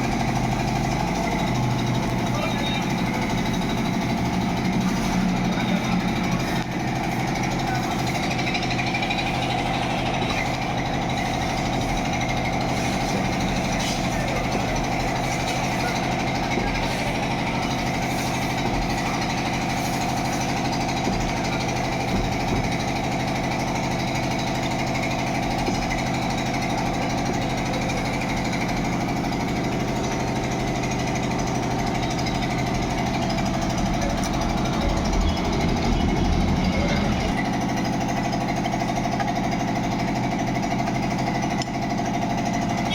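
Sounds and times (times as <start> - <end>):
rattling buzzing motor machine: 0.0 - 42.9.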